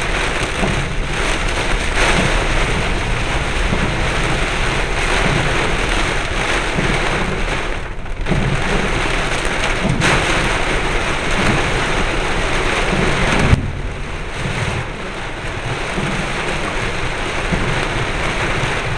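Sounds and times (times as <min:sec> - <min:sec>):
strong wind gusting: 0:00.0 - 0:18.9
wind buffeting microphone: 0:00.0 - 0:18.9.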